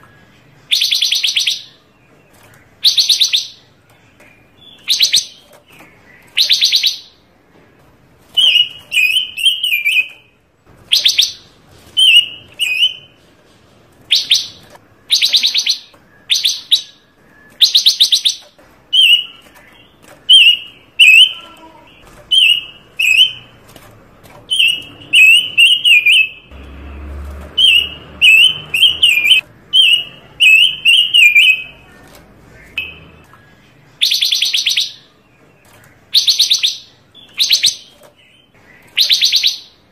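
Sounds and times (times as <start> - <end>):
songbird singing: 0.0 - 7.4, 8.3 - 13.2, 14.1 - 26.7, 27.5 - 39.9.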